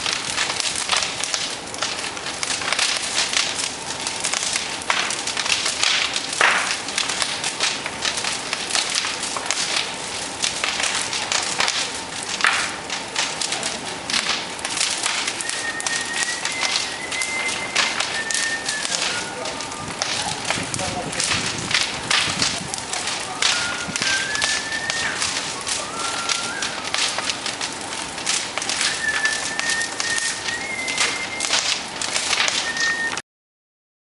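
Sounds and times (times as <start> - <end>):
bonfire crackling: 0.0 - 33.2.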